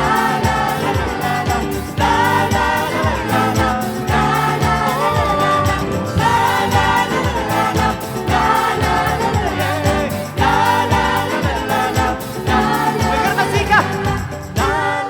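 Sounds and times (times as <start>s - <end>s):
band with steady drum beat: 0.0s - 15.0s
children's choir singing: 0.0s - 15.0s.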